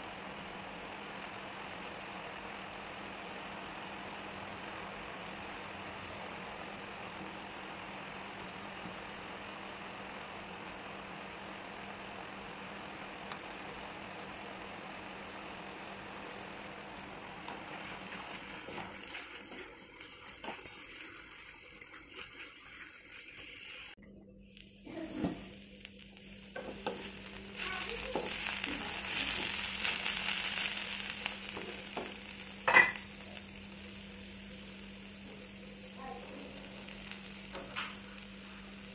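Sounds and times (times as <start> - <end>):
mushrooms sizzling in a pan: 0.0 - 24.0, 24.6 - 38.9.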